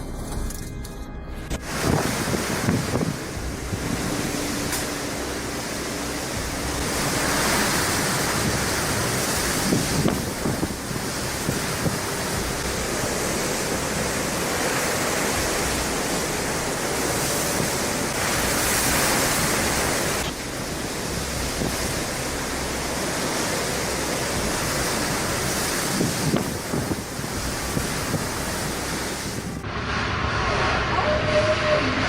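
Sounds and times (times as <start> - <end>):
wind: 0.0 - 32.0
rushing water: 1.6 - 29.6.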